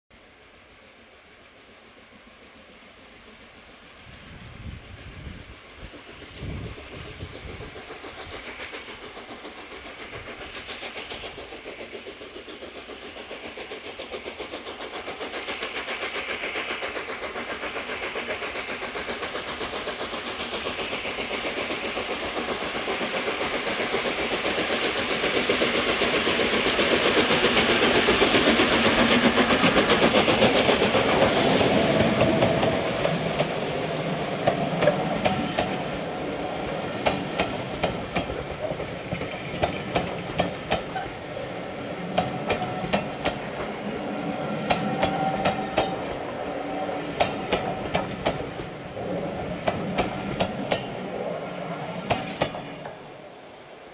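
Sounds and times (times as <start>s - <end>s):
steam locomotive exhaust beats: 0.1s - 53.9s
train wheels clicking over rail joints: 0.7s - 53.8s.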